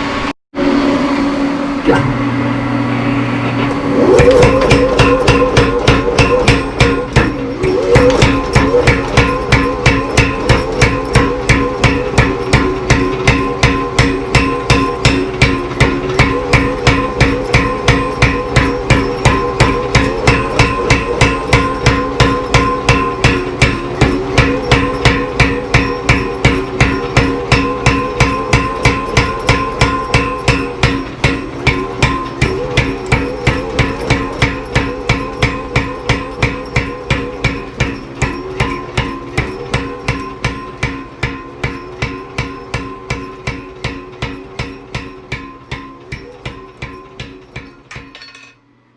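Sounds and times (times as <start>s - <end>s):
power hammer pounding metal: 3.4s - 48.6s
metallic ring: 3.9s - 48.9s.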